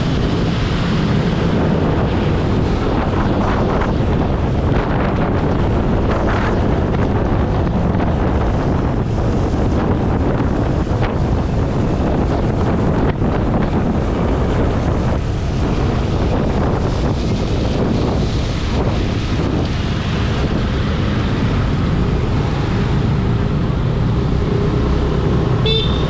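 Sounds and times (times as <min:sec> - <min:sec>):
wind blowing over microphone: 0:00.0 - 0:26.0.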